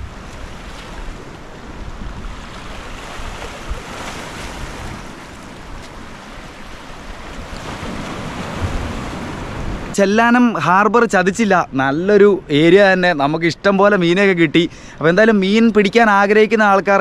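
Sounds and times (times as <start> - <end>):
wind buffeting microphone: 0.0 - 14.6
sea waves washing in: 0.0 - 15.4.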